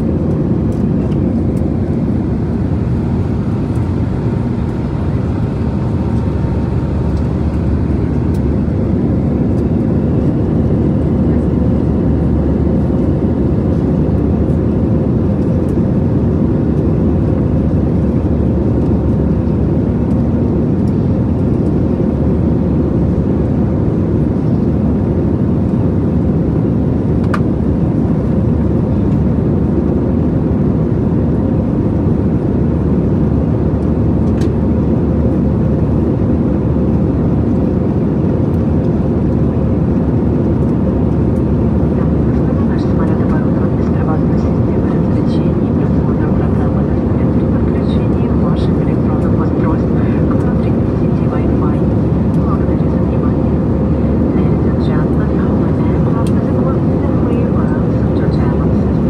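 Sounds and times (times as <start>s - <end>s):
airplane engines and airflow drone: 0.0s - 59.0s.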